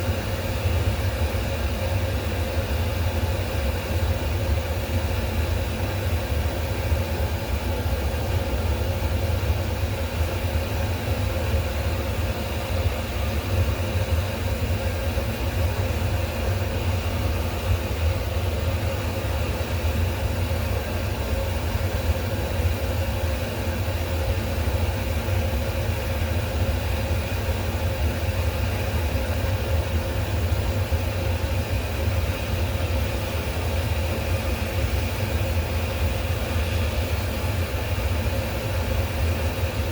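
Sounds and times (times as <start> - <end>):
low mechanical hum and rumble: 0.0 - 39.9.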